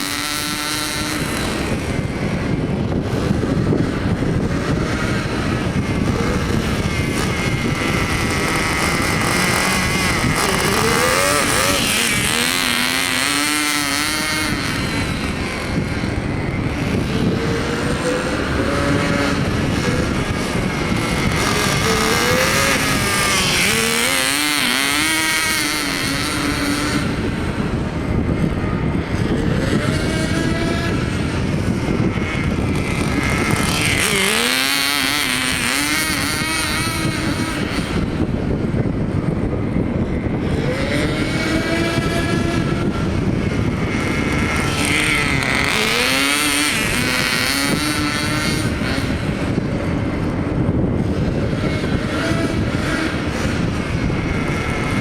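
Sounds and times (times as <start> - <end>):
small nitro engine revving: 0.0 - 55.0.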